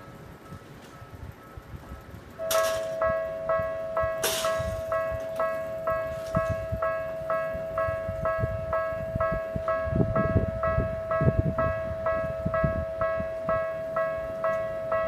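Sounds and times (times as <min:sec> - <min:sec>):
railroad crossing alarm clanging: 0:00.0 - 0:15.0.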